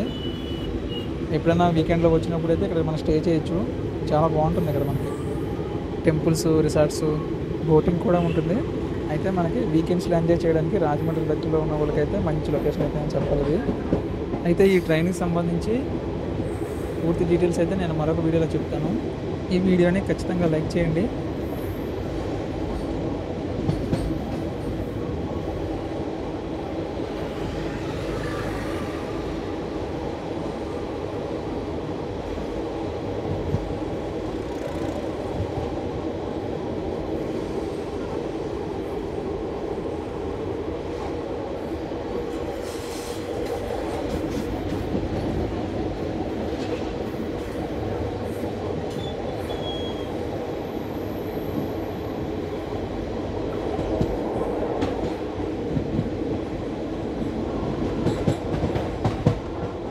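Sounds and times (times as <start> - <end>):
train wheels on rail: 3.2 - 59.9.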